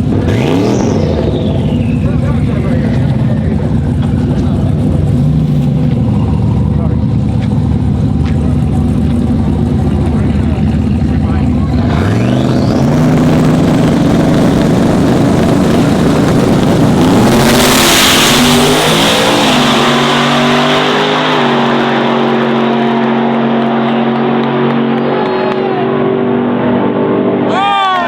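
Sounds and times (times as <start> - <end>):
truck engines roaring: 0.0 - 28.0.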